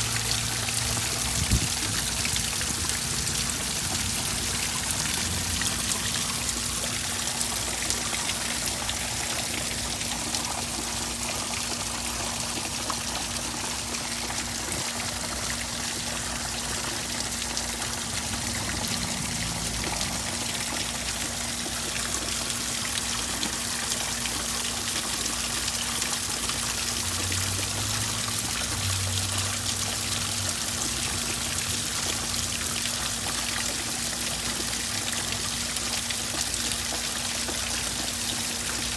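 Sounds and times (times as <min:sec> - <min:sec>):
rain falling on water: 0:00.0 - 0:38.9
water splashing into pond: 0:00.0 - 0:38.9.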